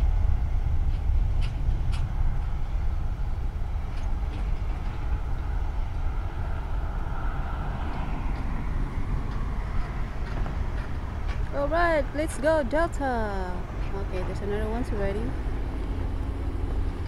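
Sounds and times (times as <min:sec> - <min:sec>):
distant jet engines roaring: 0:00.0 - 0:17.0.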